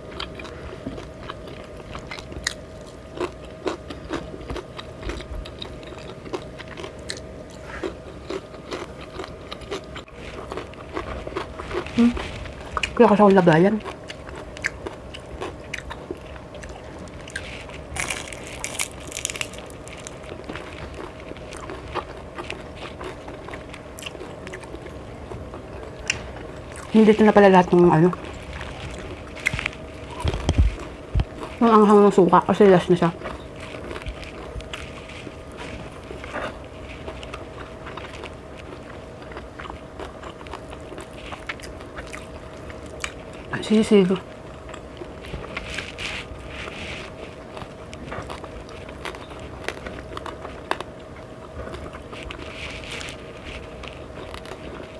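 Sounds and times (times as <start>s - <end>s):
person chewing crisp food: 0.0s - 27.3s, 28.0s - 31.9s, 33.1s - 43.5s, 44.3s - 54.9s.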